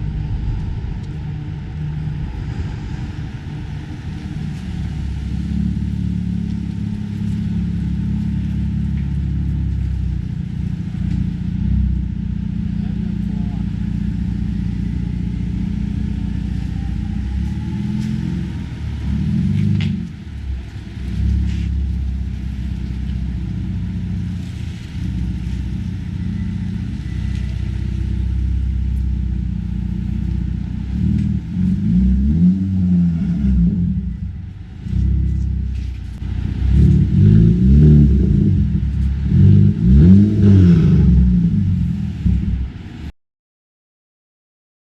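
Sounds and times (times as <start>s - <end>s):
car engine revving: 0.0s - 43.1s.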